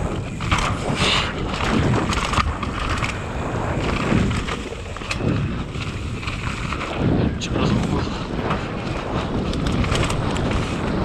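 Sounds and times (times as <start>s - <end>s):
bike knocks and clatter: 0.0s - 7.4s, 8.2s - 11.0s
tyres on rough ground: 0.0s - 11.0s
wind rushing over microphone: 0.0s - 11.0s.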